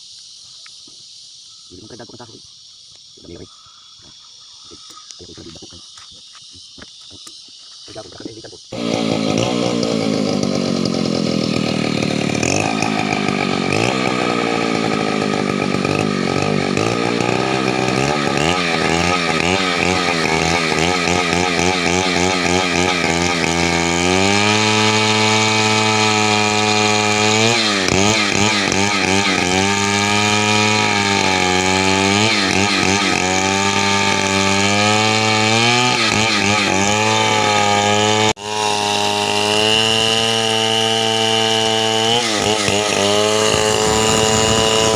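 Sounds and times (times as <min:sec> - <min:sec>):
chainsaw cutting wood: 0:08.7 - 0:44.9.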